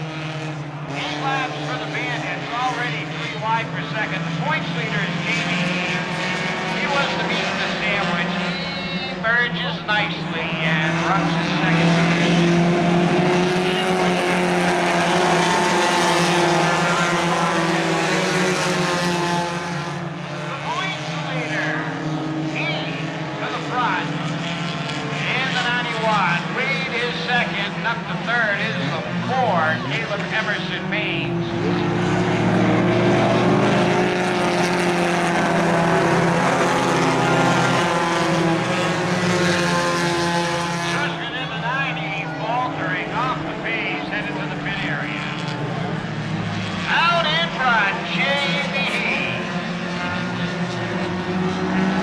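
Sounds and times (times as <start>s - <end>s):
racing car engines droning: 0.0s - 52.0s.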